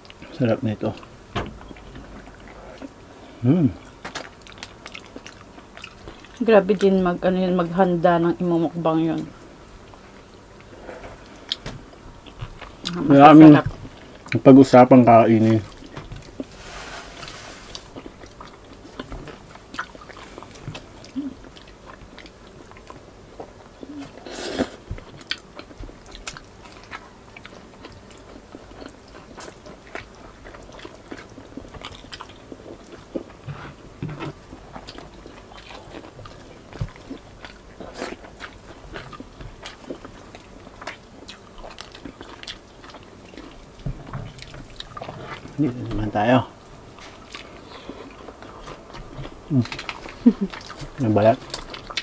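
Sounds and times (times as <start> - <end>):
people chewing and crunching food: 0.0 - 52.0.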